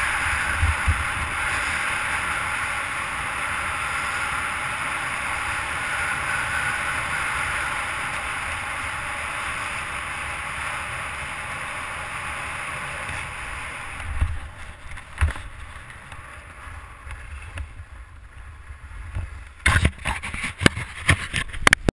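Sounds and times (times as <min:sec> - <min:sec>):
skis sliding on snow: 0:00.0 - 0:21.6
wind: 0:00.0 - 0:21.9.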